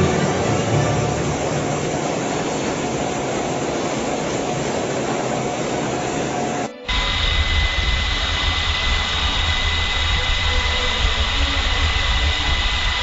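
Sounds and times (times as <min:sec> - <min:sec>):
helicopter turbine and rotor: 0:01.3 - 0:13.0.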